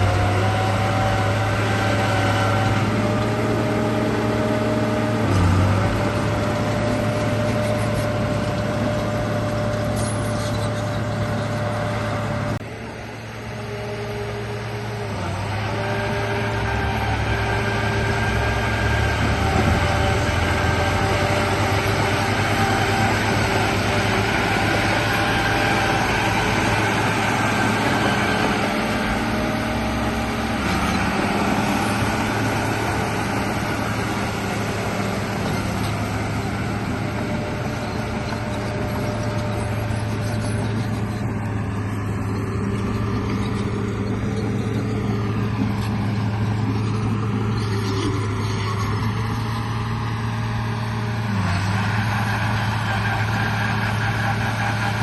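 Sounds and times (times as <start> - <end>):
whining motor tones: 0.0 - 55.0.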